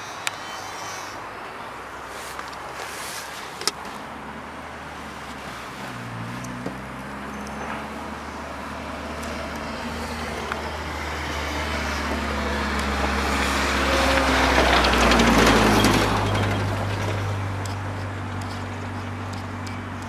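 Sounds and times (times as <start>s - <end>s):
vehicle engine running: 1.6s - 20.0s.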